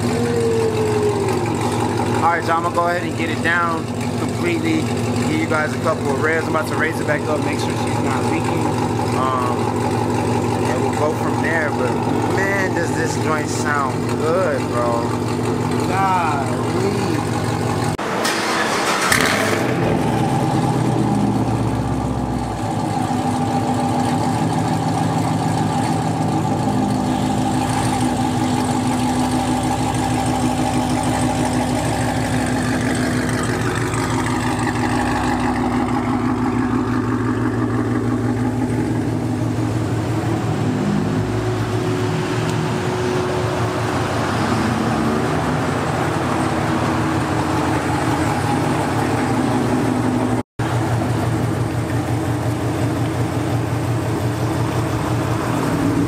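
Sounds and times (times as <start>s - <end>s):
car engine idling with deep exhaust: 0.0s - 18.0s, 19.1s - 56.0s.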